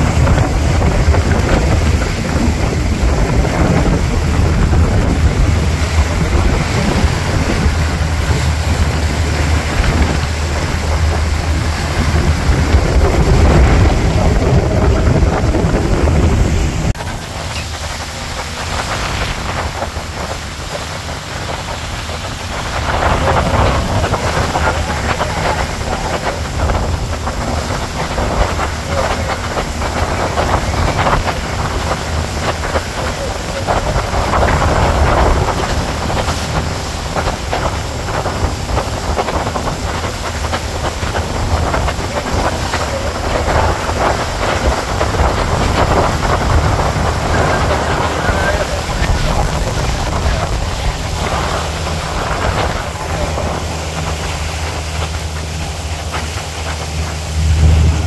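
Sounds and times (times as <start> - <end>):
boat engine rumble: 0.0 - 58.0
choppy water rushing: 0.0 - 58.0
waves splashing against hull: 0.0 - 58.0
wind buffeting microphone: 0.0 - 58.0.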